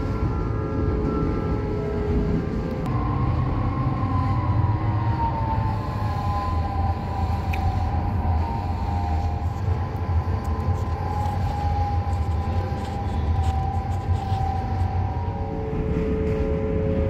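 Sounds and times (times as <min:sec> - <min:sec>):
electric drive whine: 0:00.0 - 0:17.0
wheels rumbling on track: 0:00.0 - 0:17.0.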